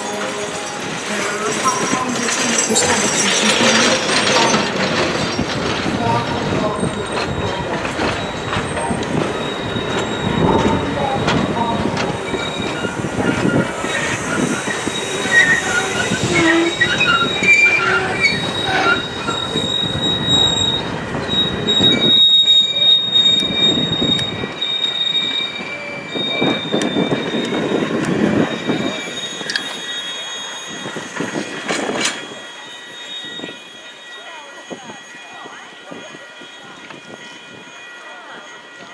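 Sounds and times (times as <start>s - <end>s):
train wheels clacking on rails: 0.0s - 38.9s
train wheels squealing: 0.0s - 38.9s.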